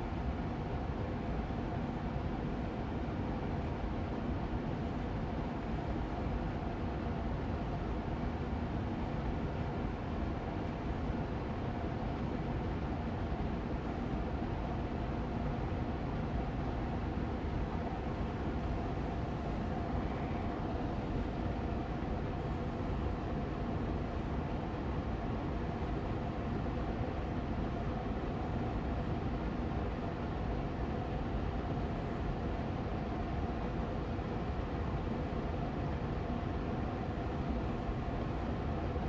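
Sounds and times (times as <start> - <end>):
air purifier fan running: 0.0 - 39.0.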